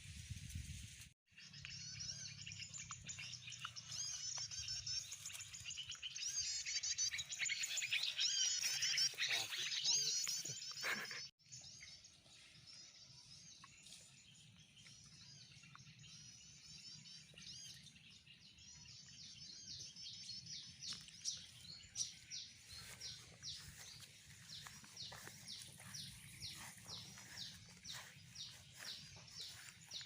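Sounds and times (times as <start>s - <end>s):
small birds chirping: 1.3s - 30.0s.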